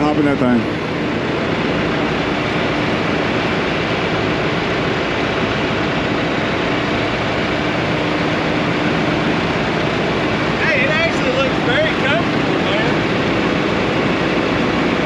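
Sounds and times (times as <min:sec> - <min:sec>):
farm machine engine idling: 0:00.0 - 0:15.0.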